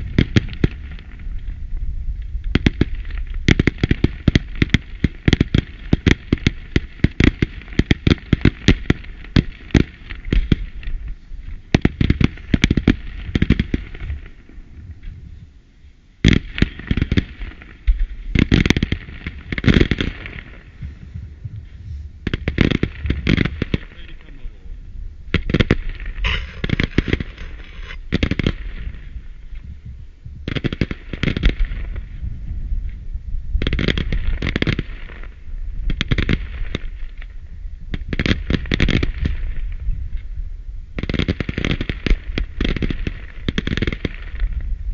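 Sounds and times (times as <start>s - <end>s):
fireworks bangs and crackling: 0.0s - 15.6s, 16.2s - 44.9s.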